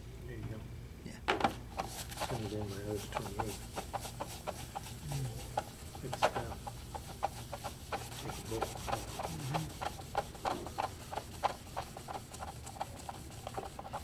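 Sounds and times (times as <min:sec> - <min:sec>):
cloth scrubbing plastic panel: 0:01.4 - 0:14.0.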